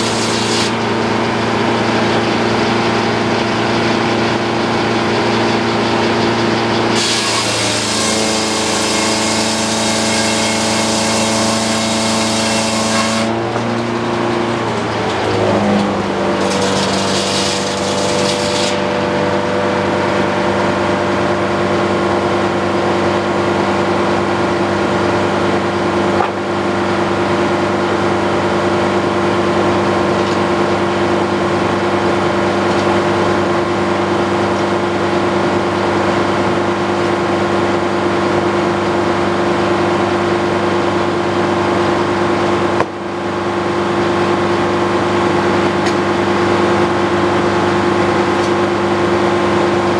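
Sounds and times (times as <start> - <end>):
sawmill blade humming: 0.0 - 49.9.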